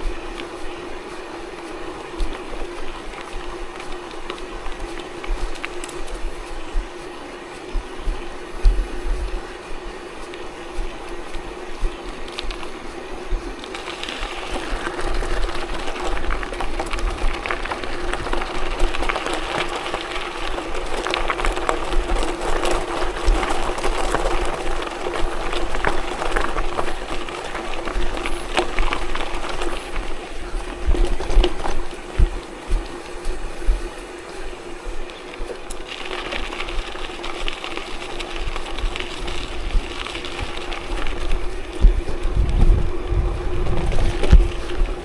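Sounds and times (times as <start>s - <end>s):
tyres crunching over gravel: 0.0s - 45.0s
wind buffeting microphone: 0.0s - 45.0s.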